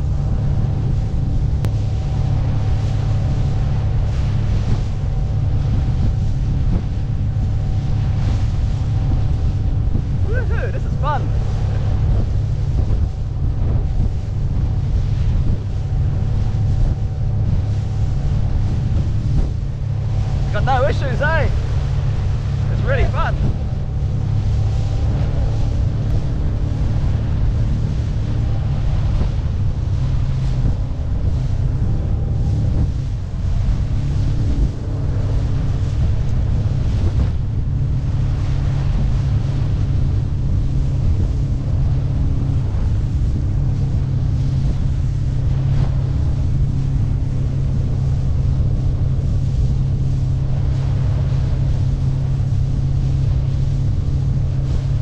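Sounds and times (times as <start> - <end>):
outboard motor droning: 0.0 - 55.0
water rushing along hull: 0.0 - 55.0
wind buffeting microphone: 0.0 - 55.0.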